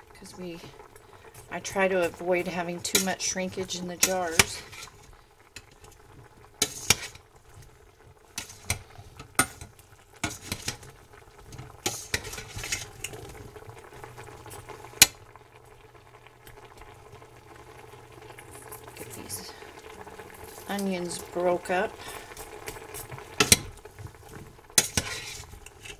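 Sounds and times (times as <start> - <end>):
food sizzling: 0.0 - 25.9.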